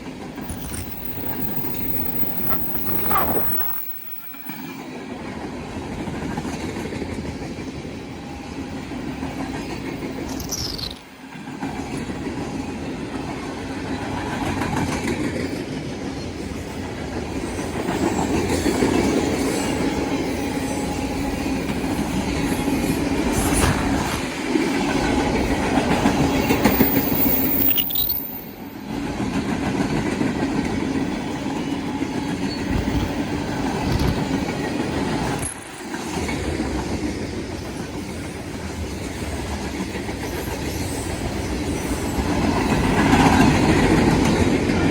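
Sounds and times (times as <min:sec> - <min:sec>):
train wheels on rail: 0:00.0 - 0:44.9.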